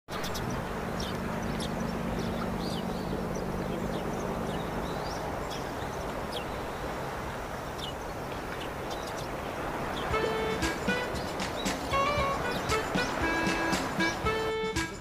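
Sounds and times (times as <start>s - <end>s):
low engine hum: 0.1s - 15.0s
small birds chirping: 0.1s - 15.0s.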